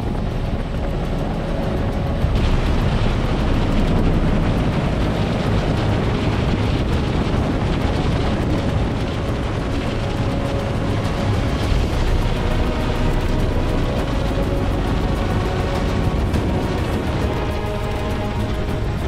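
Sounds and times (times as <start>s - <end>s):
helicopter rotor and turbine: 0.0s - 19.0s
wind rush: 0.0s - 19.0s.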